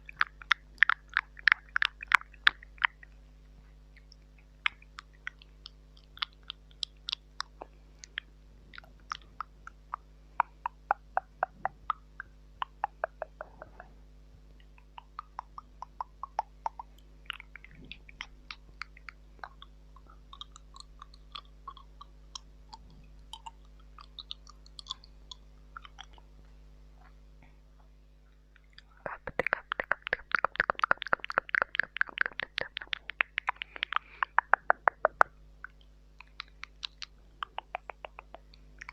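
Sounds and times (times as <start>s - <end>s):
wet tongue clicks and smacks: 0.0s - 13.9s, 14.6s - 27.2s, 28.5s - 38.9s.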